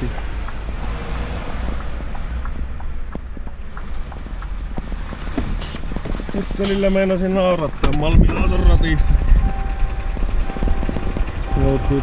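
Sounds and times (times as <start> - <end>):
road and wind noise: 0.0 - 12.0
truck engine drone: 0.0 - 12.0.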